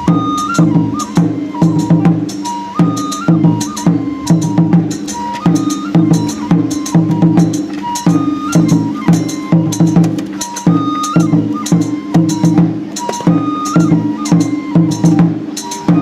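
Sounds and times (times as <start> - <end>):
drum strikes: 0.0 - 16.0
high piping melody: 0.0 - 16.0.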